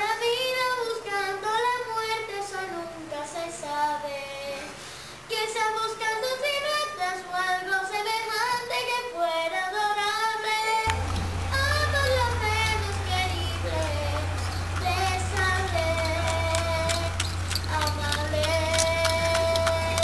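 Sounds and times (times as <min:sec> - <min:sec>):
child singing: 0:00.0 - 0:10.8, 0:11.5 - 0:20.0.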